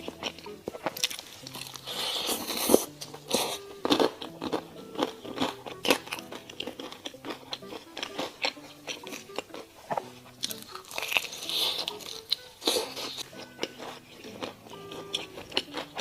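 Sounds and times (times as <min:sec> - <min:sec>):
fried chicken crunching: 0:00.0 - 0:16.0
soft background music: 0:00.0 - 0:16.0.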